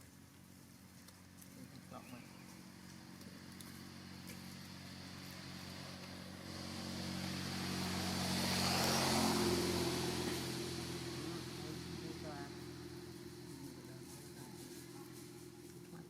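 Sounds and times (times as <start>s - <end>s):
motor vehicle passing by: 1.1s - 16.0s.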